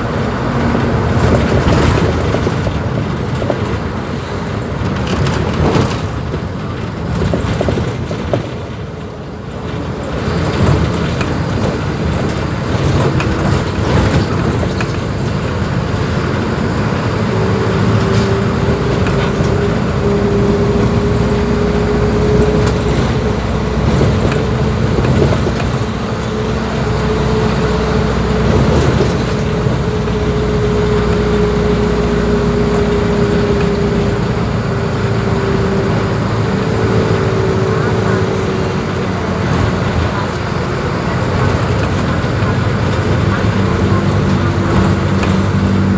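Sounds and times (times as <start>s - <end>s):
diesel bus engine whine: 0.0s - 45.9s.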